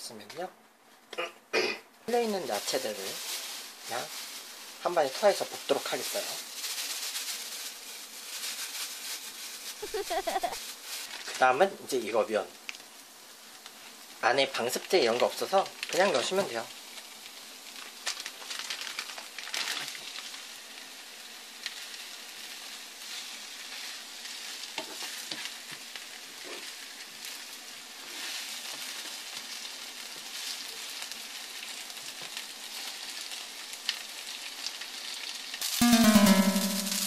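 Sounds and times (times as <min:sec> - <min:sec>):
noodles sizzling in oil: 0:02.1 - 0:37.0.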